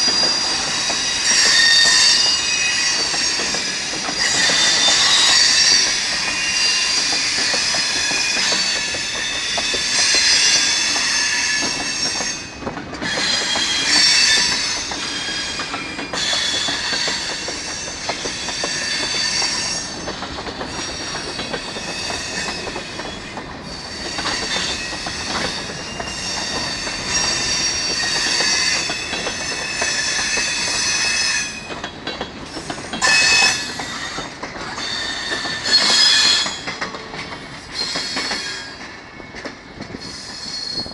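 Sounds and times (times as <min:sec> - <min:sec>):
rail cars rolling past: 0:00.0 - 0:40.9
train wheels squealing: 0:00.0 - 0:40.9
wheels clicking over track: 0:03.0 - 0:30.8, 0:31.6 - 0:40.4.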